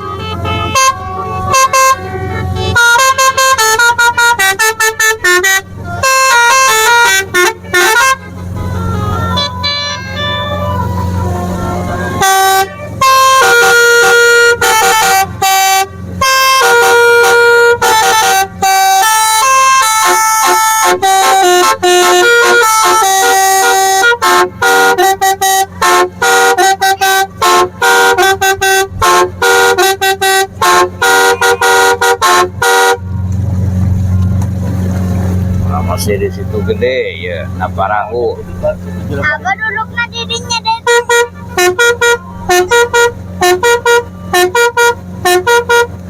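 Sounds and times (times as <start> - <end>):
multi-tone musical horn playing: 0.0 - 33.2, 37.5 - 46.0
low motor hum: 0.0 - 46.0.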